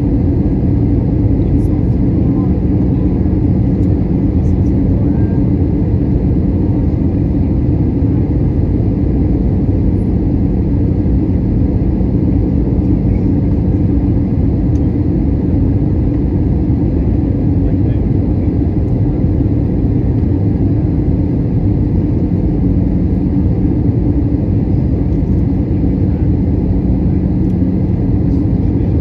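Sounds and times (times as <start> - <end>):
jet engines and airflow rumbling: 0.0 - 29.0
low hum: 0.0 - 29.0.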